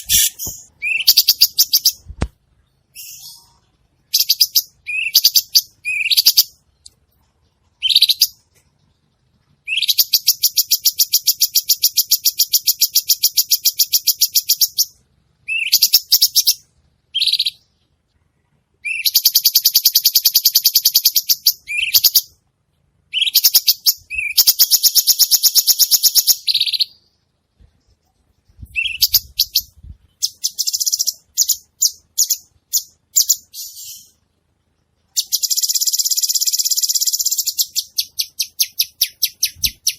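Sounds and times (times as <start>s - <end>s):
songbird trilling and chirping: 0.0s - 17.9s, 18.8s - 22.4s, 23.1s - 27.2s, 28.4s - 34.2s, 35.1s - 39.9s.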